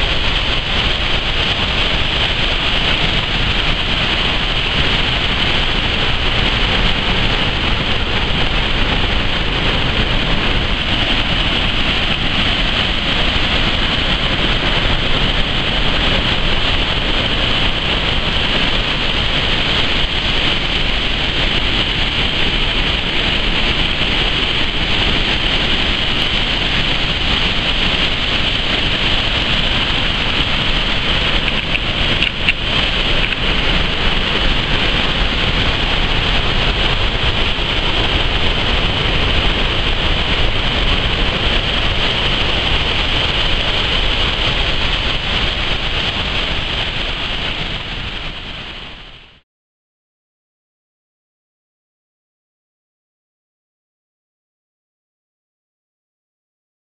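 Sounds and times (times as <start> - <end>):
waterfall rushing: 0.0 - 49.4.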